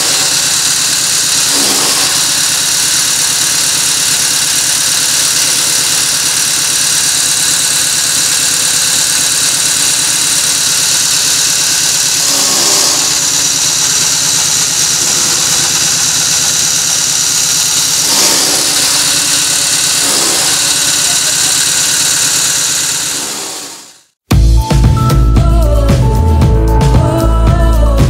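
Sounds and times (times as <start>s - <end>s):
chaff cutter chopping straw: 0.0s - 24.2s.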